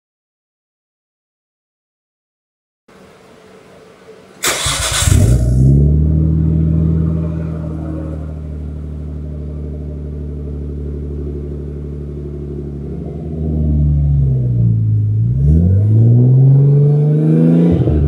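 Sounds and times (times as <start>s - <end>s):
car engine starting and idling: 2.9s - 18.0s.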